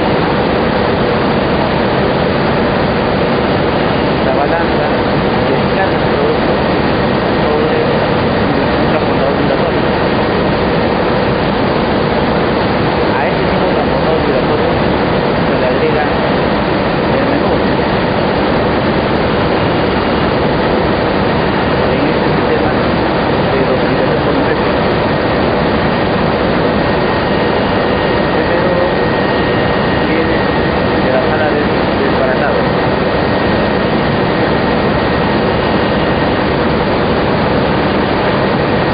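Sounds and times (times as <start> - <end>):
industrial machinery roaring: 0.0 - 38.9.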